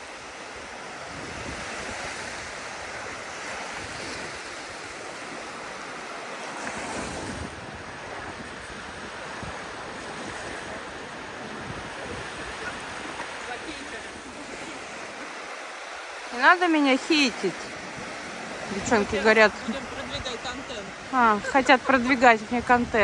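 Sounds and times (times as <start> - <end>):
waves lapping on shore: 0.0 - 23.0.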